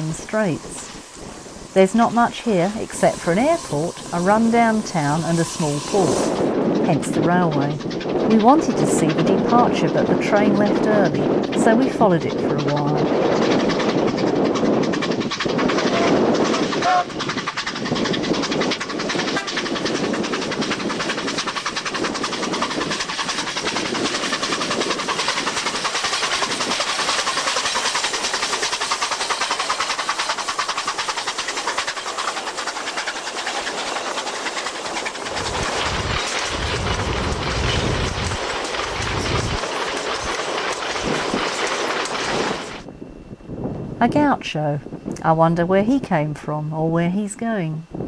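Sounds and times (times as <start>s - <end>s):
train wheels clattering over rail joints: 0.0s - 42.9s
deep rumbling bursts: 0.0s - 44.2s.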